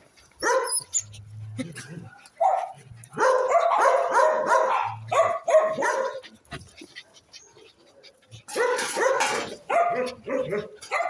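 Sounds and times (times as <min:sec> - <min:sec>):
young dogs barking and yipping: 0:00.0 - 0:11.0.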